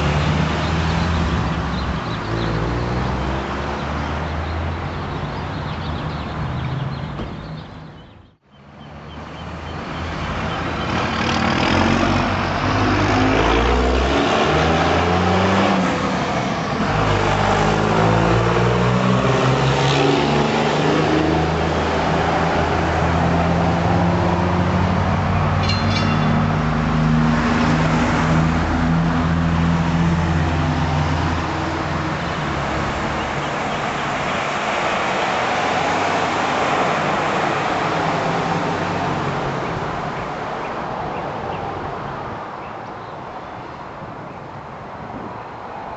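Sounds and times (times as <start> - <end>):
street traffic noise: 0.0 - 45.9.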